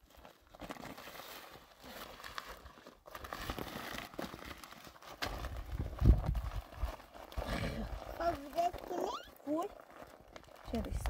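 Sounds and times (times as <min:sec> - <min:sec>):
plastic sack crinkling: 0:00.0 - 0:11.0.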